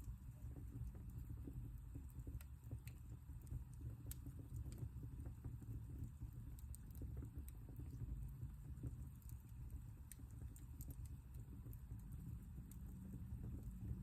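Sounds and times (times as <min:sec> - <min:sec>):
fire crackles and pops: 0:00.0 - 0:14.0
fire rumbling in a fireplace: 0:00.0 - 0:14.0.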